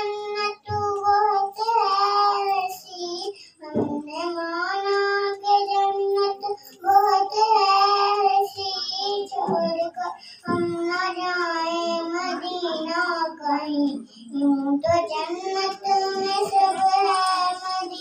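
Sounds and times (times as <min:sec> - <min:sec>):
girl singing devotional song: 0:00.0 - 0:18.0.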